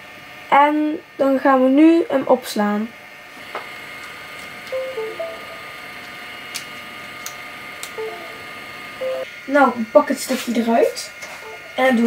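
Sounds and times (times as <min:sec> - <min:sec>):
high electrical whine: 0:00.0 - 0:12.0.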